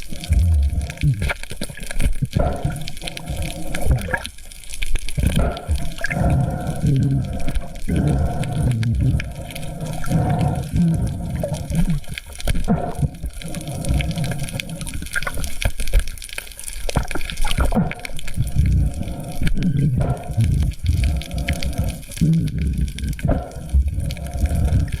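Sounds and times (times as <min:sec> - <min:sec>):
water splashing and gurgling: 0:00.0 - 0:25.0.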